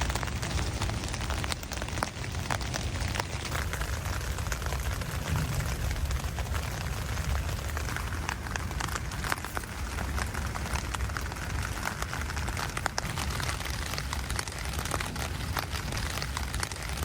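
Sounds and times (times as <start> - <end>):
rain drops tapping on tent: 0.0 - 17.0
steady low rumble: 0.0 - 17.0.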